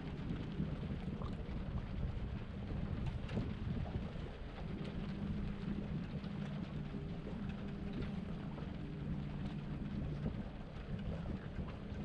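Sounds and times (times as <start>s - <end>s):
faint steady hum: 0.0s - 12.0s
wind buffeting microphone: 0.0s - 12.0s.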